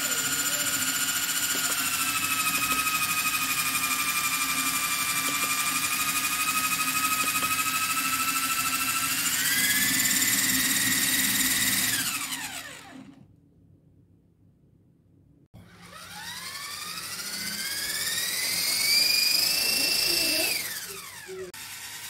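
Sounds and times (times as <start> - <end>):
model helicopter motors whining: 0.0 - 13.2, 15.6 - 22.0.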